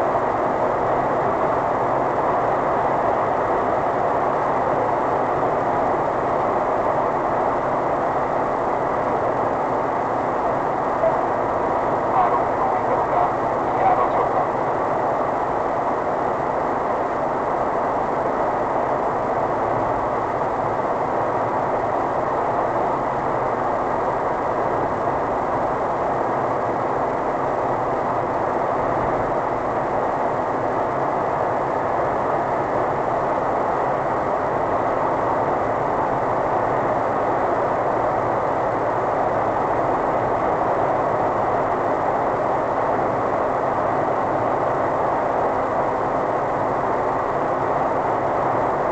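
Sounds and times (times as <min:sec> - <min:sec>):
car engine drone: 0:00.0 - 0:48.9.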